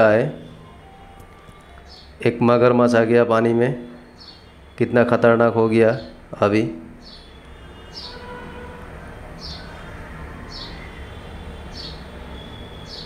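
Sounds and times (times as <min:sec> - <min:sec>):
bird chirping: 0:00.0 - 0:02.2, 0:03.5 - 0:08.8, 0:09.4 - 0:13.0.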